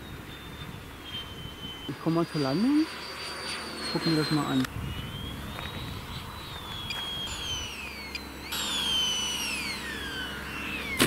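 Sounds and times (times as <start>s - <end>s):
electric ducted fan whining: 0.0s - 11.0s.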